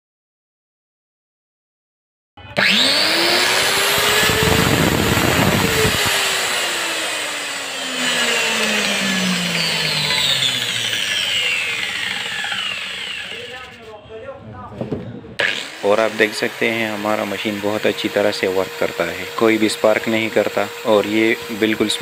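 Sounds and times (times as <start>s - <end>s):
angle grinder whining: 2.5s - 13.9s, 15.4s - 22.0s.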